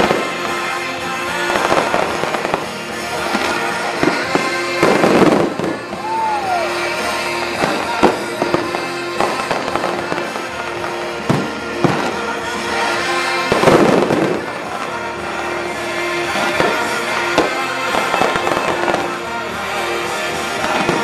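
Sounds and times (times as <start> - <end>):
fireworks bangs and crackling: 0.0 - 21.0
music: 0.0 - 21.0.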